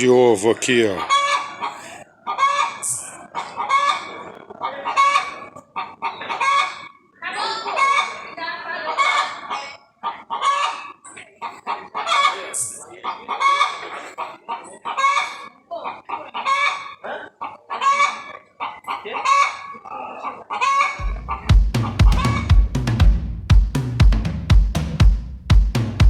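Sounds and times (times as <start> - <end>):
chicken clucking loudly: 0.0 - 23.0.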